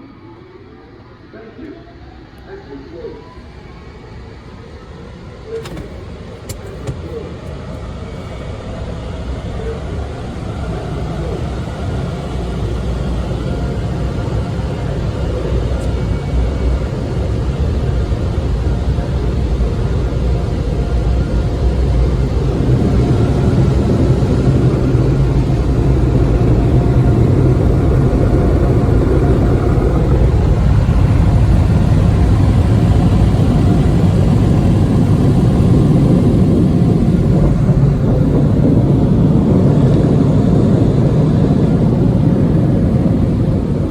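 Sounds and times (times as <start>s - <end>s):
car wash machinery rumbling: 3.1s - 43.9s.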